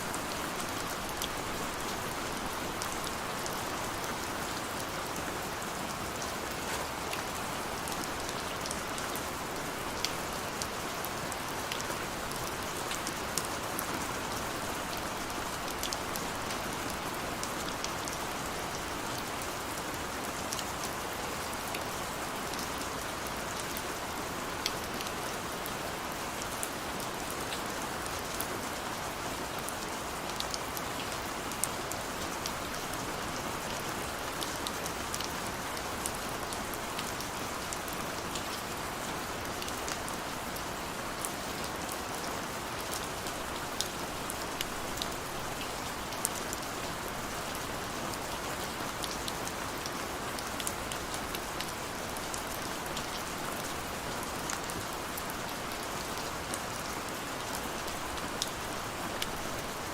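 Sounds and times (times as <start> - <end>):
steady rain hiss: 0.0 - 59.9
rain drops ticking: 0.1 - 59.9.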